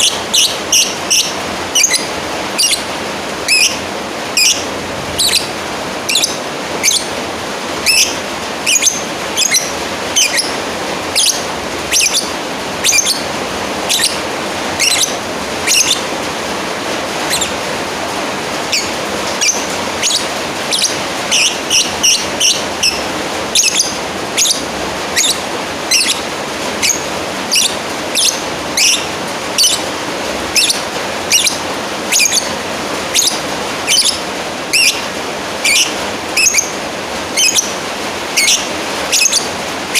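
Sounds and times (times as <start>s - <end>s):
bird shrill chirps: 0.0s - 3.8s, 4.4s - 7.2s, 7.8s - 16.1s, 17.2s - 17.6s, 18.7s - 29.9s, 30.5s - 36.8s, 37.4s - 37.8s, 38.4s - 39.5s.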